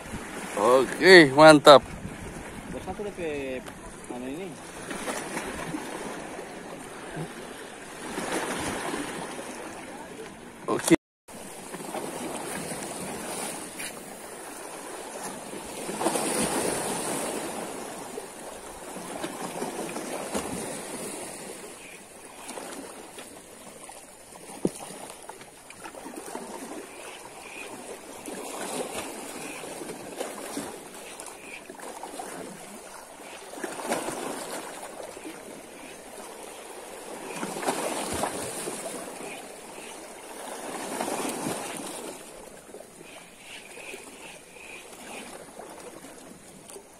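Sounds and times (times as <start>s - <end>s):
sea waves splashing: 0.0s - 46.9s.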